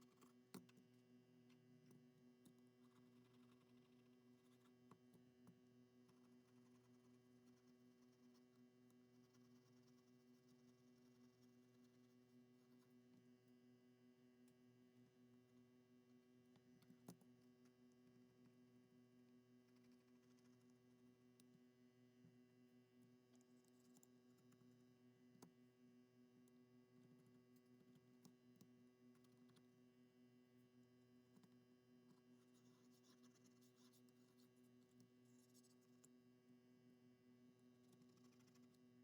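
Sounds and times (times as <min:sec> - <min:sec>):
faint electrical hum: 0:00.0 - 0:39.0.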